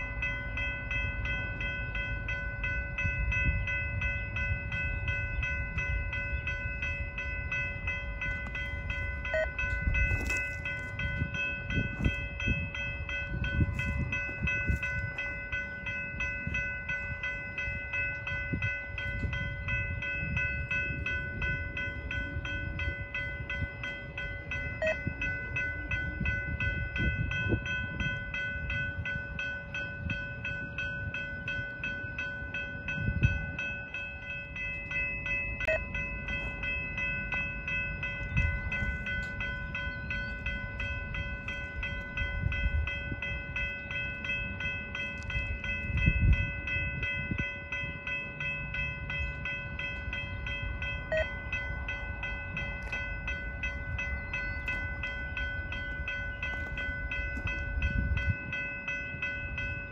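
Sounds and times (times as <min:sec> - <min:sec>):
crossing bell ringing: 0:00.0 - 0:59.9
freight train rumbling past: 0:00.0 - 0:59.9.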